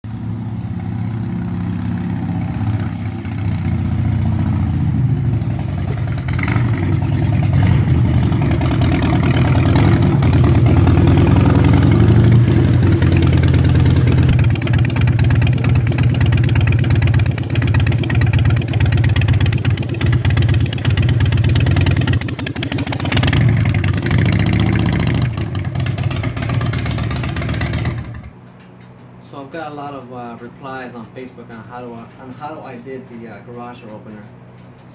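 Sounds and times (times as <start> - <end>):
motorcycle engine running: 0.1 - 29.1.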